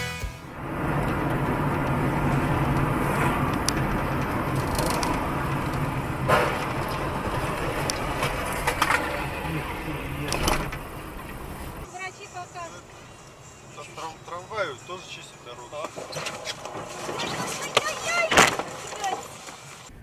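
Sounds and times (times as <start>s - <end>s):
car cabin road noise: 0.5s - 20.0s.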